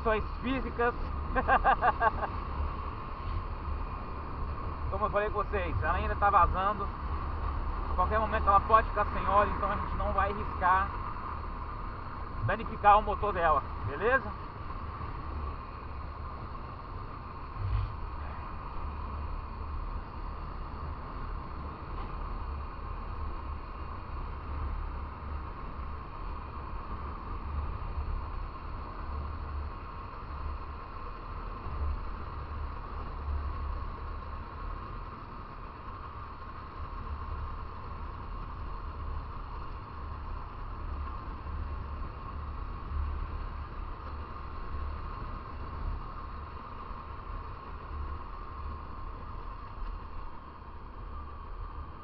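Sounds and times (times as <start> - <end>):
motorcycle running: 0.0 - 52.0
road noise: 0.0 - 52.0.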